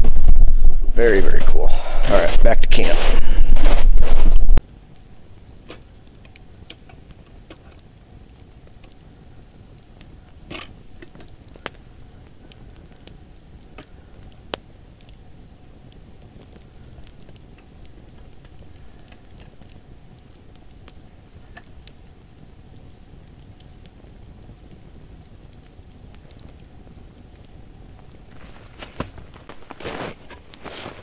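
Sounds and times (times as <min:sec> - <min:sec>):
campfire crackling: 0:00.0 - 0:31.0
sharp fire pops: 0:00.0 - 0:31.0.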